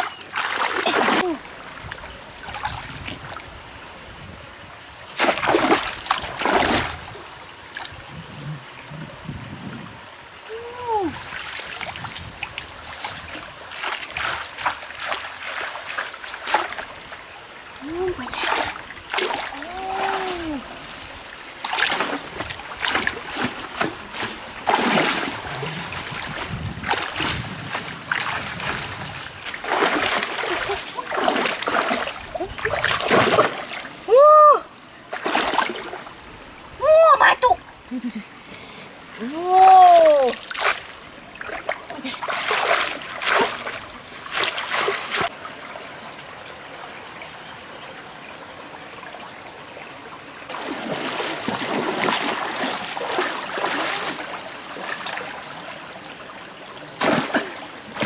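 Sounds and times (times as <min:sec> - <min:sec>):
water splashing: 0:00.0 - 0:03.5, 0:05.1 - 0:08.0, 0:10.5 - 0:36.9, 0:38.9 - 0:45.4, 0:50.5 - 0:58.0
stream rushing: 0:00.0 - 0:58.0.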